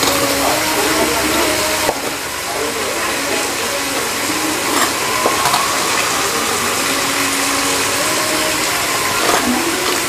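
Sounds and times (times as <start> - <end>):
oil sizzling in a pan: 0.0 - 10.0.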